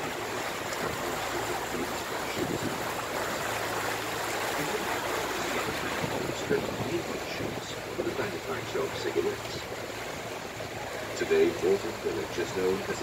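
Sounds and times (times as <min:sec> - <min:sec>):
boat engine hum: 0:00.0 - 0:13.0
water rushing along boat hull: 0:00.0 - 0:13.0.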